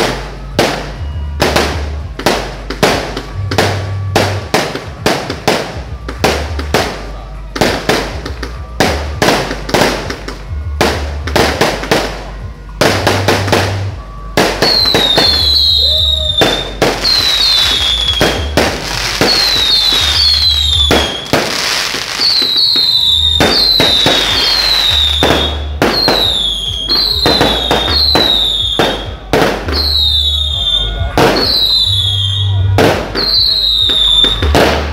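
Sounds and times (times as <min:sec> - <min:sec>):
firecrackers banging and crackling: 0:00.0 - 0:34.9
whistling fireworks: 0:00.0 - 0:34.9.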